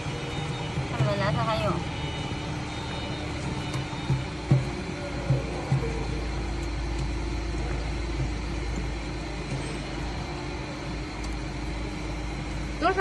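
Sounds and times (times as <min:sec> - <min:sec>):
blender low rumble: 0:00.0 - 0:13.0.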